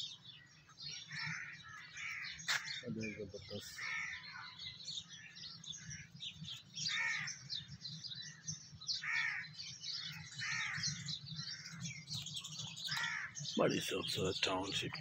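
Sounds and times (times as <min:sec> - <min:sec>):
small birds chirping: 0:00.0 - 0:15.0
harsh cawing bird call: 0:00.8 - 0:06.2, 0:06.8 - 0:12.2, 0:12.8 - 0:15.0.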